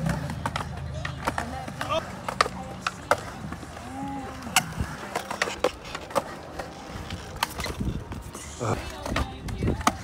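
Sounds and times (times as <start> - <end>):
skateboard clacks: 0.0 - 10.0
skateboard wheels rolling on concrete: 0.0 - 10.0.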